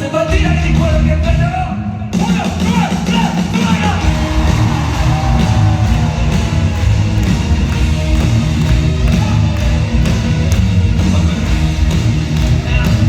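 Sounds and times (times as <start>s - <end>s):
live band music: 0.0s - 13.0s
heavy drum beat: 2.2s - 13.0s.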